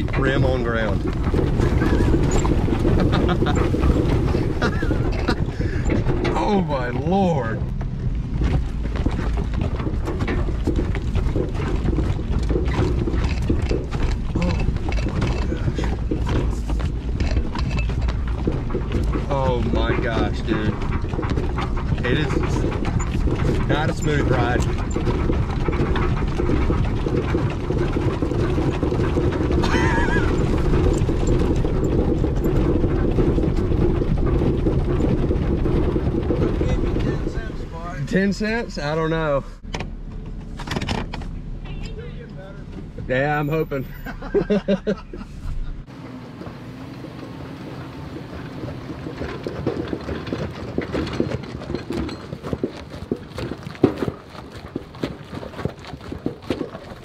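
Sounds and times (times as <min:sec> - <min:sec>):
trailer rumbling on road: 0:00.0 - 0:57.0
truck engine hum: 0:00.0 - 0:57.0.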